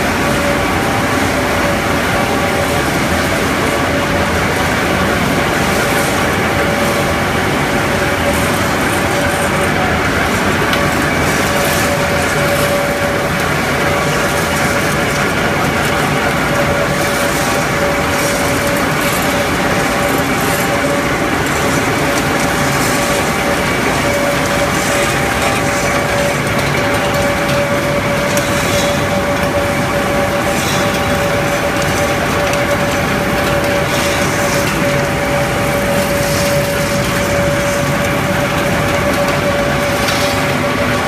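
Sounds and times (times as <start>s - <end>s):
pellet mills droning: 0.0s - 41.0s
pellets crackling onto conveyor belt: 0.0s - 41.0s.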